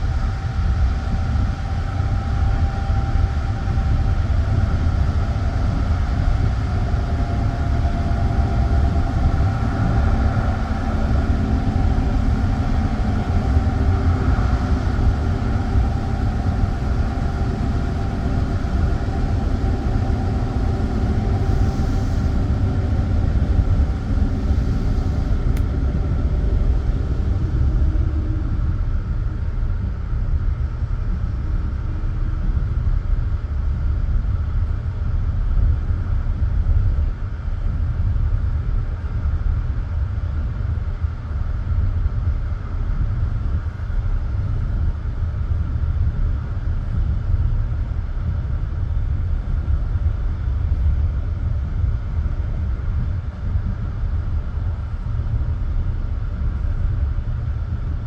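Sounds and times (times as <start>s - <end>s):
faint whine: 0.0s - 58.0s.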